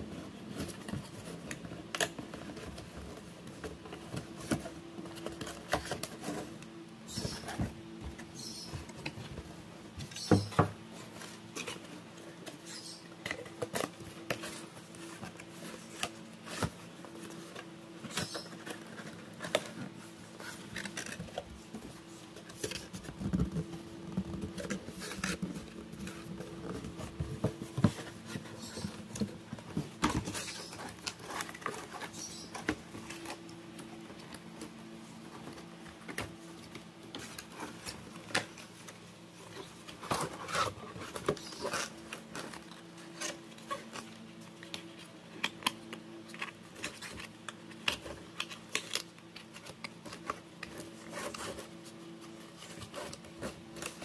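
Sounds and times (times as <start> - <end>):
cardboard box and paper rustling: 0.0 - 54.0.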